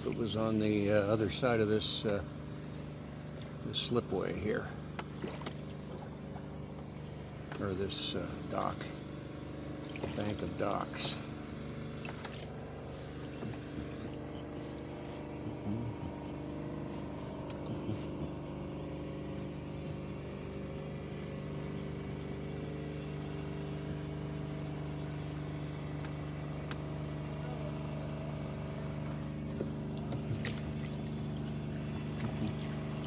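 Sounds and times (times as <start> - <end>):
air compressor droning: 0.0 - 33.0.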